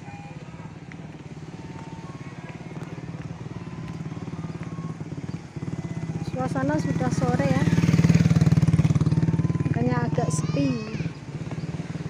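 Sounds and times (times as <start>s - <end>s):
small motorcycle engine running: 0.7s - 12.0s.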